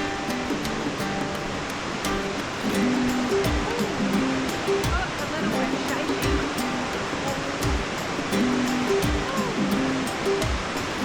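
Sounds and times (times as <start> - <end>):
flowing water rushing: 0.0 - 11.0
plucked string music: 0.0 - 11.0.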